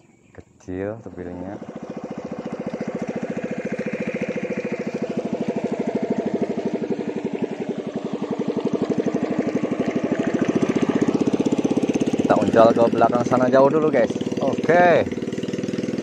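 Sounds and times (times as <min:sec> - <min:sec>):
boat motor chugging: 0:00.0 - 0:16.0.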